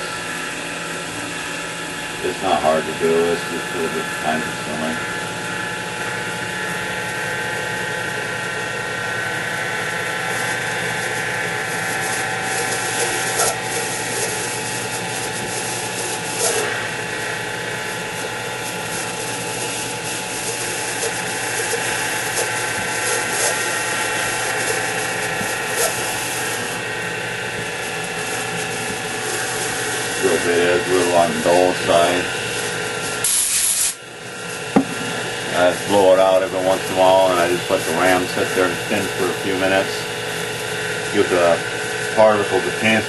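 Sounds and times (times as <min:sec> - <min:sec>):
mill motor and gear whine: 0:00.0 - 0:43.0.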